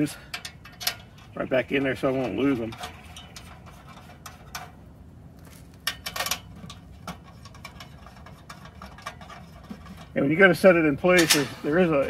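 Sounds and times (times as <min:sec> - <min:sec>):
metallic clicks and rattles: 0:00.0 - 0:04.8, 0:05.4 - 0:10.3.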